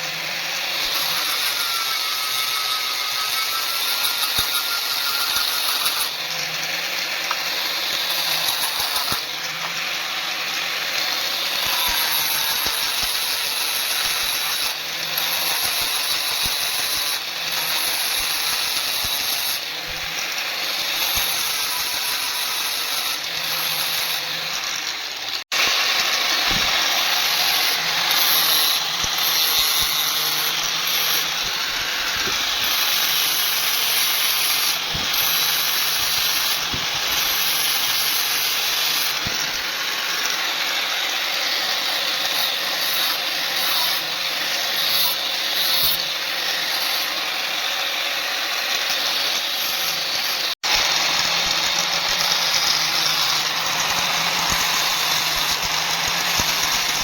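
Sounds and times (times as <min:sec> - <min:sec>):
power tool hissing and grinding: 0:00.0 - 0:57.0.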